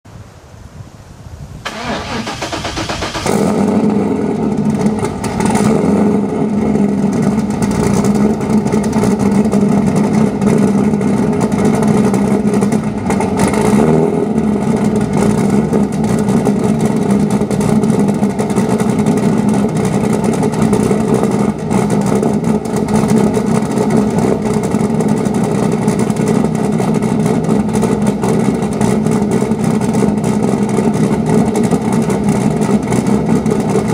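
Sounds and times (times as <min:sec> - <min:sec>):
car engine cranking and idling: 0:01.6 - 0:33.9.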